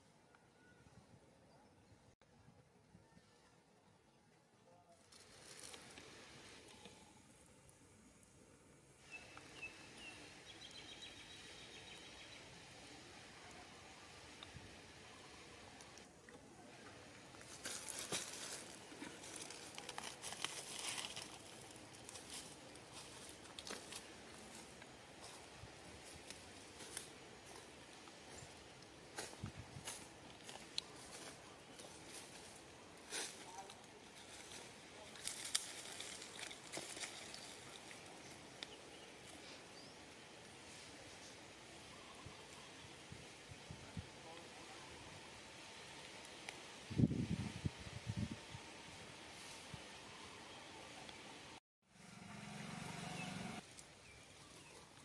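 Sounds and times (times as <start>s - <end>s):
low steady hiss: 0.0s - 55.0s.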